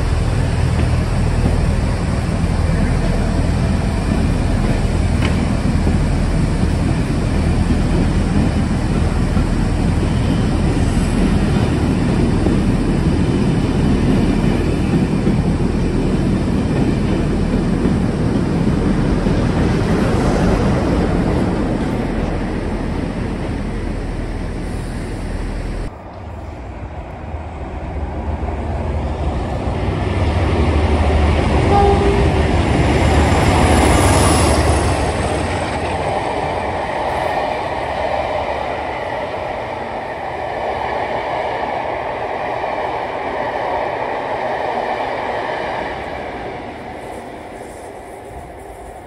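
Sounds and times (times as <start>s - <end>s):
diesel locomotive engine rumble: 0.0s - 49.0s.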